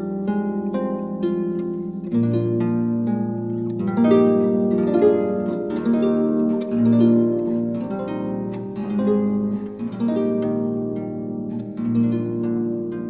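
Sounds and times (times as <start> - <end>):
slow harp-like instrumental music: 0.0 - 13.0.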